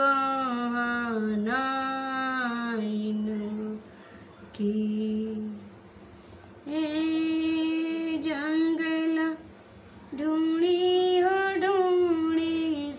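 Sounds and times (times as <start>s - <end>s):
woman singing unaccompanied: 0.0s - 3.9s, 4.5s - 5.7s, 6.6s - 9.5s, 10.1s - 12.9s.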